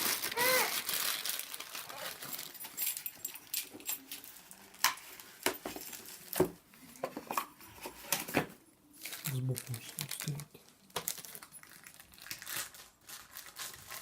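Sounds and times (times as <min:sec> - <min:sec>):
packaging rustle: 0:00.0 - 0:07.0, 0:07.8 - 0:14.0.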